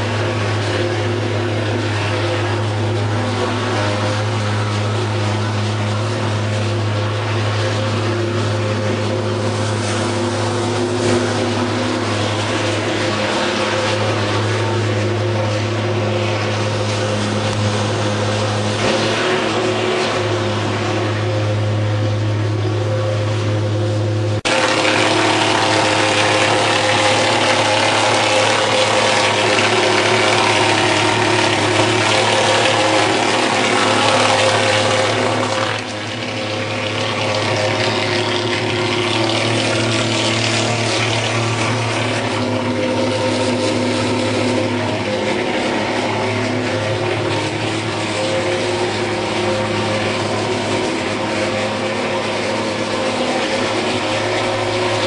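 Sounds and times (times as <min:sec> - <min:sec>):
fogging machine engine drone: 0:00.0 - 0:55.0.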